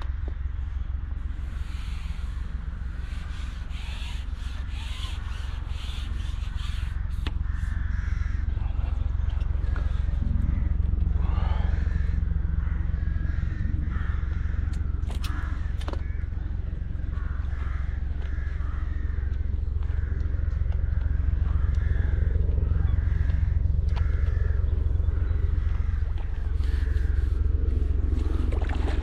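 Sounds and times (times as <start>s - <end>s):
birds calling: 0.0s - 29.0s
steady low rumble: 0.0s - 29.0s.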